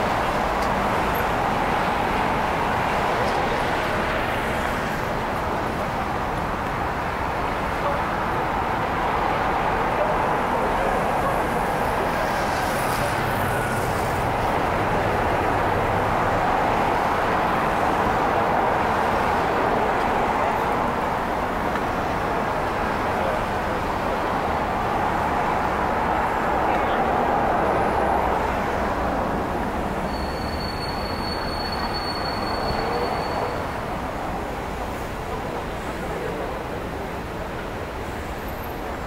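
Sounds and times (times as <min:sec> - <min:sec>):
city street traffic: 0:00.0 - 0:39.0.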